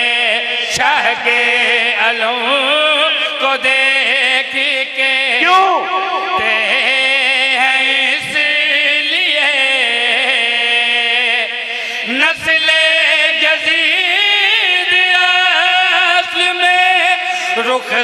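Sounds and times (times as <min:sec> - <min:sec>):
man chanting: 0:00.0 - 0:18.0.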